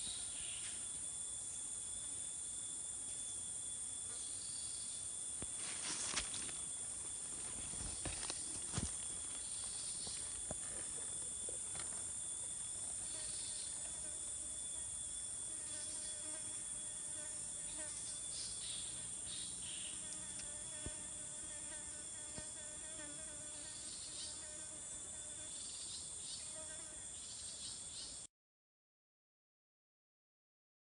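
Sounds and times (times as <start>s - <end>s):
high-pitched insect drone: 0.0s - 28.2s
insect calls: 0.0s - 28.3s.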